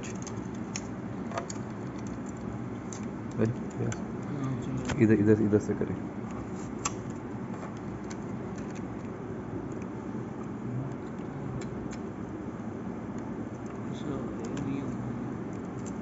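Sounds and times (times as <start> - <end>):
steady background rumble: 0.0 - 16.0.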